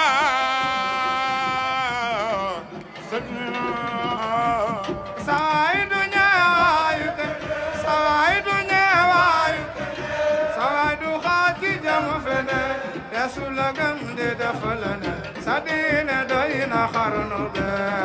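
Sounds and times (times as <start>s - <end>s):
man singing religious chant: 0.0s - 18.0s.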